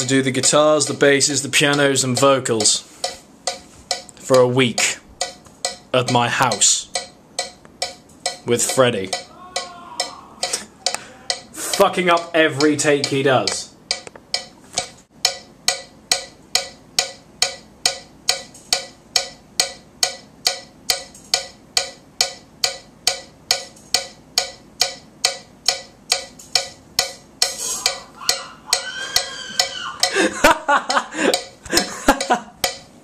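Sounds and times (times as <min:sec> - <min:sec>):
drum kit ticking: 0:00.0 - 0:33.0.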